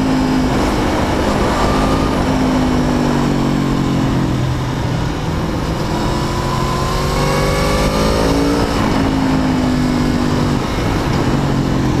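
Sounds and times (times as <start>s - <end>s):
motorcycle engine revving: 0.0s - 12.0s
wind and road noise: 0.0s - 12.0s.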